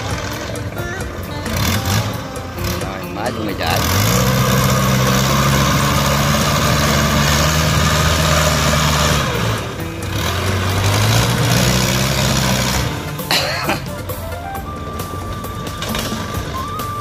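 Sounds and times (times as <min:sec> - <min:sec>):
diesel engine revving: 0:00.0 - 0:17.0.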